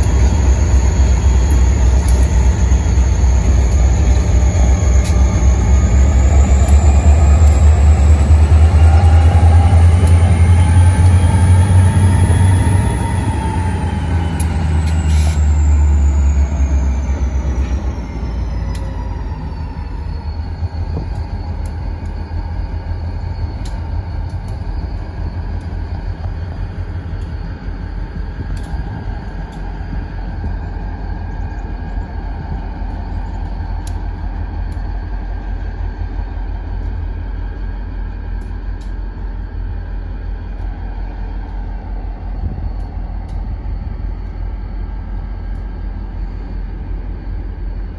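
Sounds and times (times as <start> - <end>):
high whine falling in pitch: 0.0 - 47.9
locomotive engines rumbling: 0.0 - 47.9.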